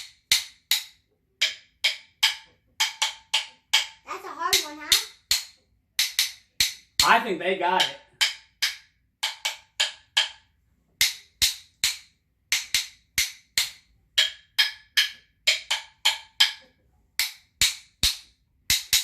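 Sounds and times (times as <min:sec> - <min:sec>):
wooden rhythm sticks clicking: 0:00.0 - 0:19.0.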